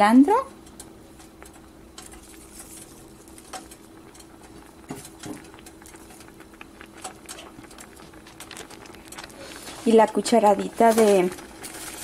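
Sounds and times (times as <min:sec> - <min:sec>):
faint steady hum: 0:00.0 - 0:12.0
stew bubbling in a pan: 0:00.0 - 0:12.0.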